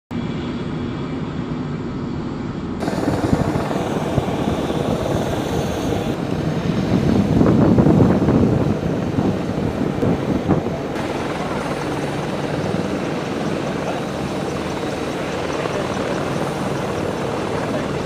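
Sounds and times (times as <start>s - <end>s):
turboshaft engine whine: 0.1s - 18.0s
helicopter rotor beating: 2.8s - 18.0s.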